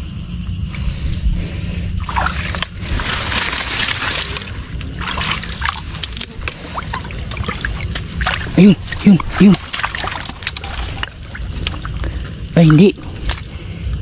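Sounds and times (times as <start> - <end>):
creek water sloshing and trickling: 1.8 - 13.8
water splashing: 2.0 - 13.6.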